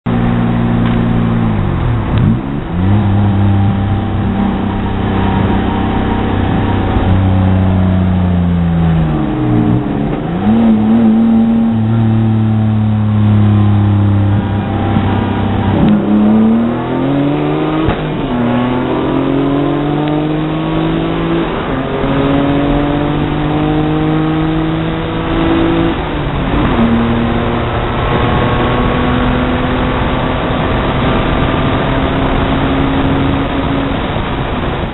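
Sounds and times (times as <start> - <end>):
road and wind noise: 0.0 - 34.9
car engine accelerating: 0.1 - 34.9.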